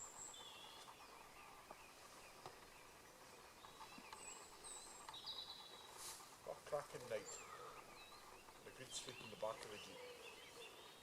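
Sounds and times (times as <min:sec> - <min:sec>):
faint birdsong chirps and whistles: 0:00.0 - 0:11.0.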